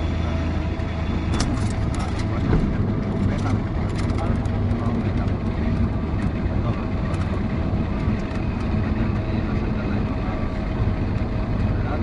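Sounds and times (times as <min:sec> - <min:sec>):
light aircraft engine and propeller: 0:00.0 - 0:12.0.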